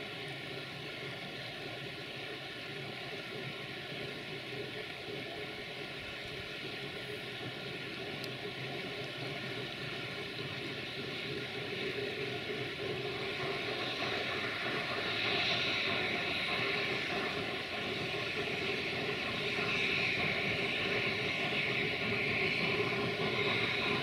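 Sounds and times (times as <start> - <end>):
hissy noise: 0.0 - 24.0.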